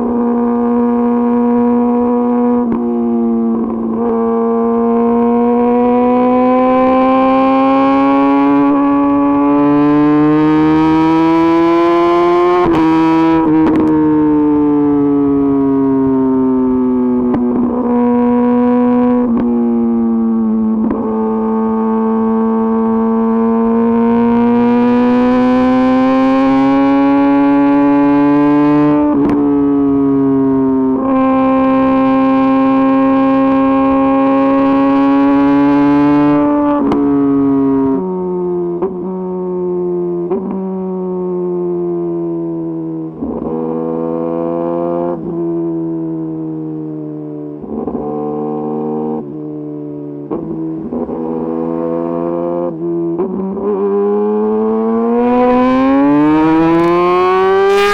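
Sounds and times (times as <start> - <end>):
motorcycle engine changing gears: 0.0 - 40.8, 47.6 - 49.3, 50.3 - 57.9.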